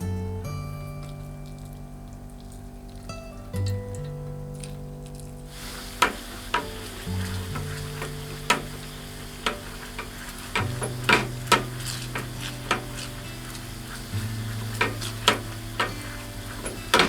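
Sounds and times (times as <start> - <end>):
light sizzling hiss: 0.0 - 17.0
utensil clicking against pan: 0.9 - 17.0.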